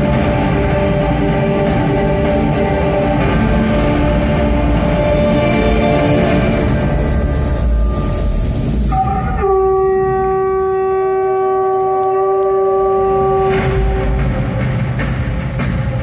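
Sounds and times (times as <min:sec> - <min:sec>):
horn-like chord over speakers: 0:00.0 - 0:14.6.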